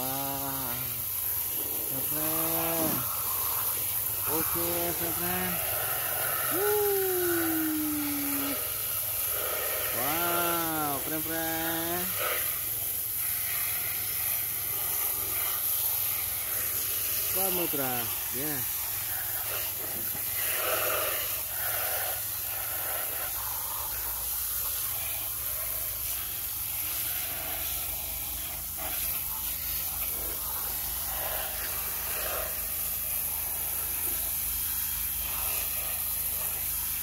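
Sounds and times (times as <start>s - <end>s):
water splashing on plastic toys: 0.0s - 37.0s
water spraying from hose: 0.0s - 37.0s.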